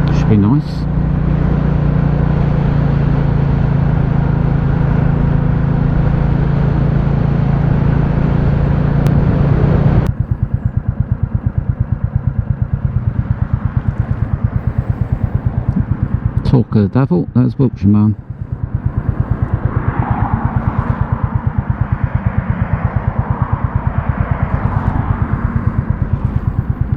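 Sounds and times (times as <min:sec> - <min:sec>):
motorcycle engine running: 0:00.0 - 0:26.9
wind and road noise: 0:00.0 - 0:26.9.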